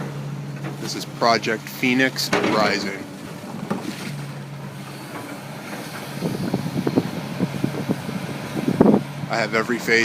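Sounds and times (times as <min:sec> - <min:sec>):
large engine droning: 0:00.0 - 0:10.0.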